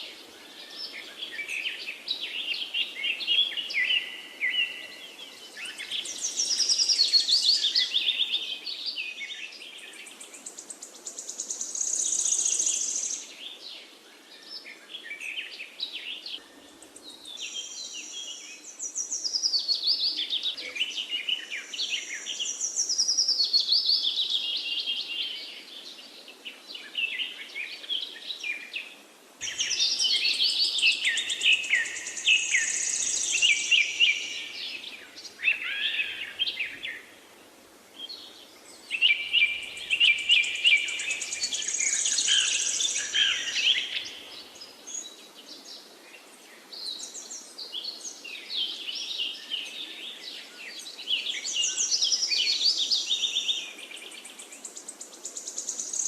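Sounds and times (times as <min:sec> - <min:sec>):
faint background hiss: 0:00.0 - 0:56.0
songbirds singing and chirping: 0:00.0 - 0:56.0.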